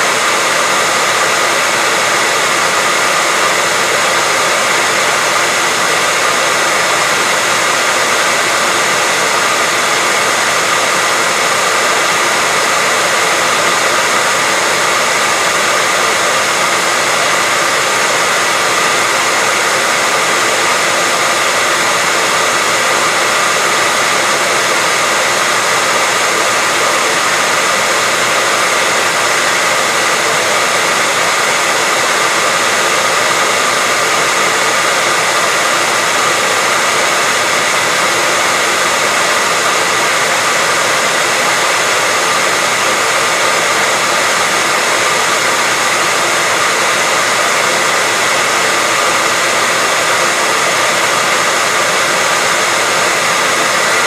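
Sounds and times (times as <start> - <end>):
hairdryer running: 0.0 - 54.0.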